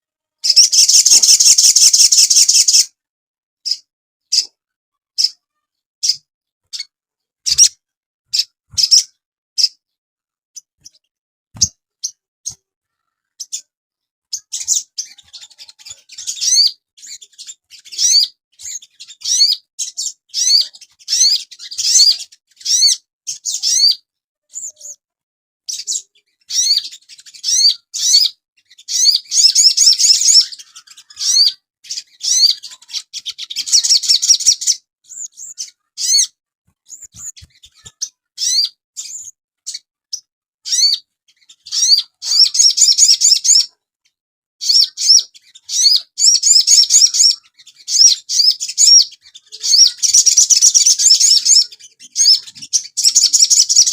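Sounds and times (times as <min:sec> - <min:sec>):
sunbird chirping and twittering: 0:00.4 - 0:02.9, 0:03.6 - 0:04.5, 0:07.5 - 0:09.8, 0:10.6 - 0:25.0, 0:25.7 - 0:43.8, 0:44.6 - 0:53.9.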